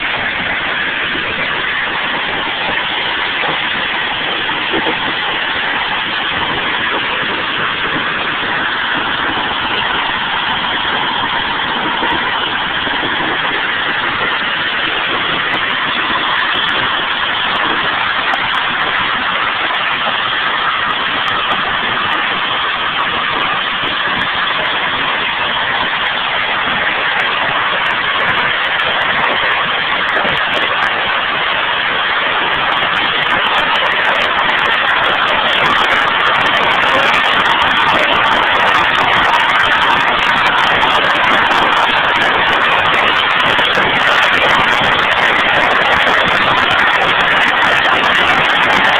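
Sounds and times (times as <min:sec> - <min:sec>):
hail striking: 0:00.0 - 0:48.9.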